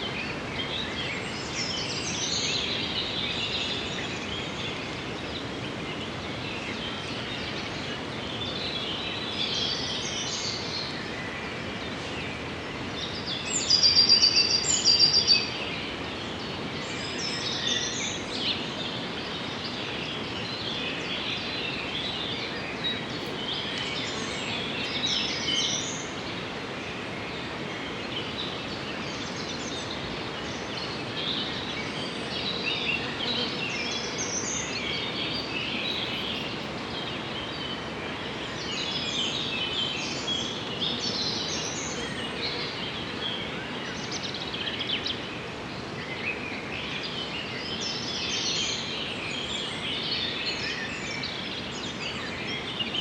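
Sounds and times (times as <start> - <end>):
background hiss: 0.0 - 53.0
birds calling and singing: 0.0 - 53.0.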